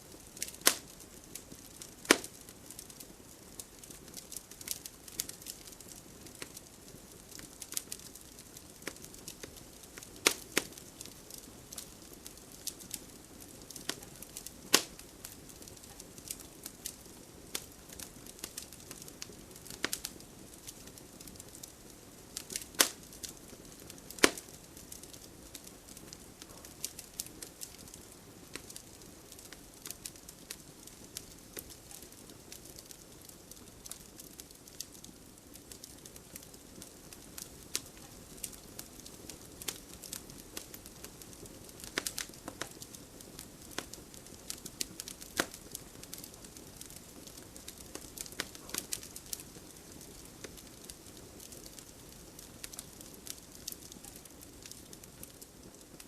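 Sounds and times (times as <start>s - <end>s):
fire crackling and popping: 0.0s - 56.0s
soft fire hiss: 0.0s - 56.0s.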